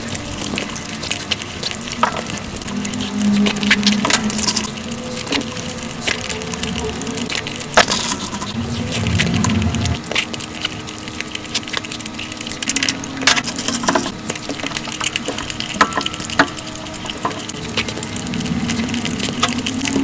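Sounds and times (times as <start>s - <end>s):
wet chewing and smacking: 0.0s - 20.0s.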